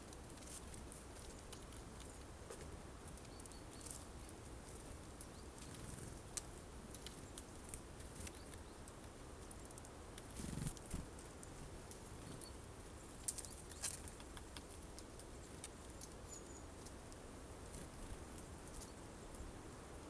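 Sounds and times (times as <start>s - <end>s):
birds ticking and tapping: 0.0s - 19.5s.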